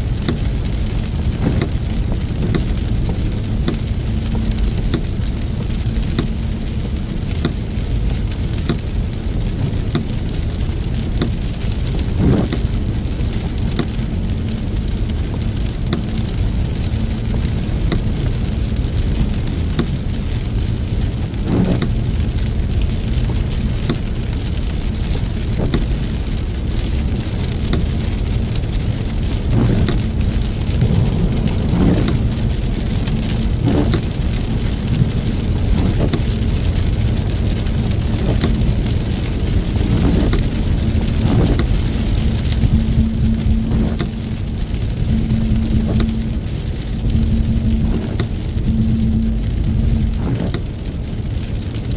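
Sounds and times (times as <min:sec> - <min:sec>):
heavy rain on a car: 0:00.0 - 0:51.9
low driving rumble: 0:00.0 - 0:51.9.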